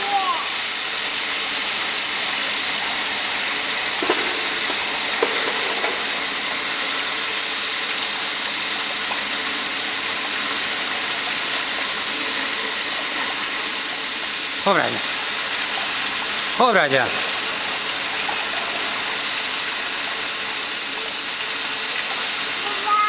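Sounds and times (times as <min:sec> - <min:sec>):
water spray hissing on hot steel: 0:00.0 - 0:23.0.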